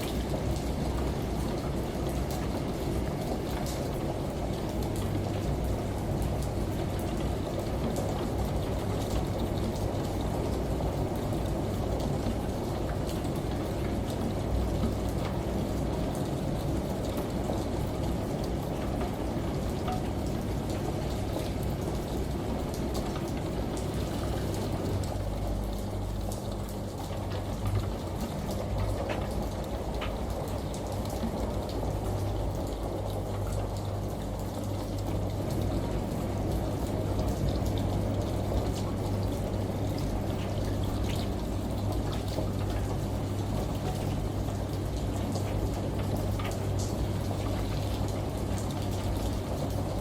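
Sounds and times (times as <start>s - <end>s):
churning water: 0.0s - 50.0s
raindrop ticks: 0.0s - 50.0s
steady rain: 0.0s - 50.0s
washing machine running: 0.0s - 50.0s.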